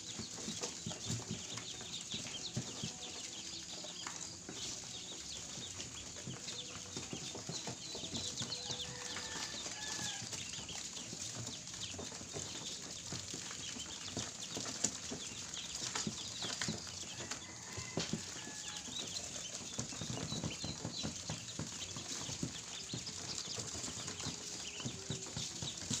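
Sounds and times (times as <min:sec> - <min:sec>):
ducklings peeping: 0:00.0 - 0:26.0.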